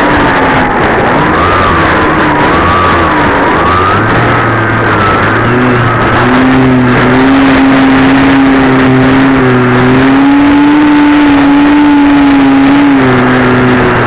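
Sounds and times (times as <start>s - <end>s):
electric motor and propeller drone: 0.0s - 14.0s
rushing wind: 0.0s - 14.0s.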